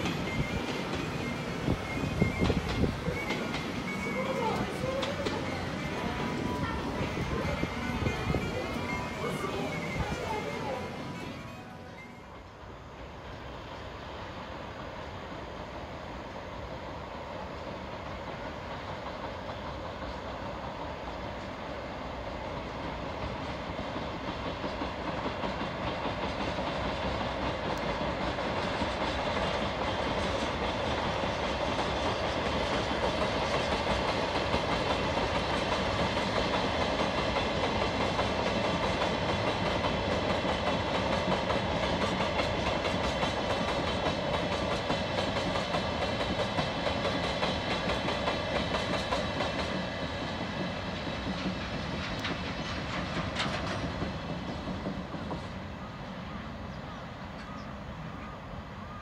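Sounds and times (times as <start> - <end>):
train wheels clattering on rails: 0.0 - 12.7, 17.6 - 58.6.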